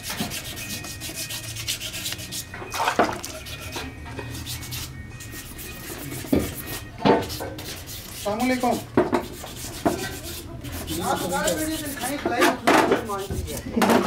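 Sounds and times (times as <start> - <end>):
rubbing strokes on metal: 0.0 - 2.6, 3.3 - 13.6.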